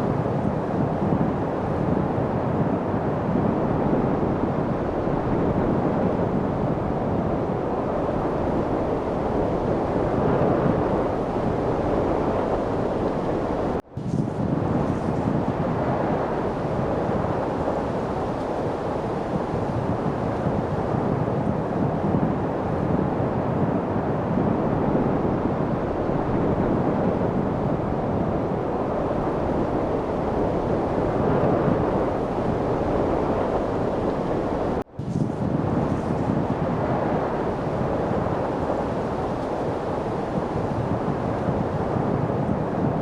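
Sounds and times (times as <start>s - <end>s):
wind blowing: 0.0s - 43.0s.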